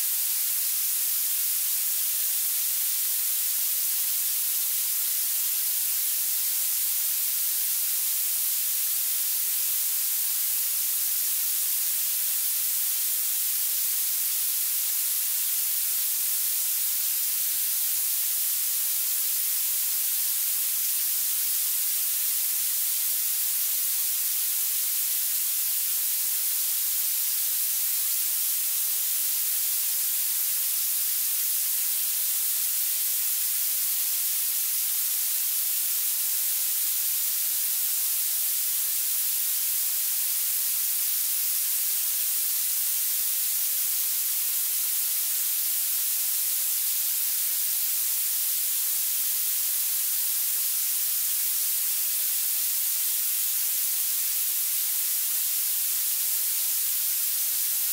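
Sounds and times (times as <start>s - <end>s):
high-pitched synthetic hiss: 0.0s - 57.9s.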